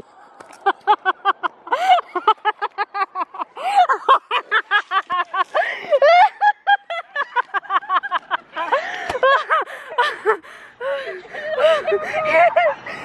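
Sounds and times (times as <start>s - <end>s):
girl laughing: 0.6s - 12.9s.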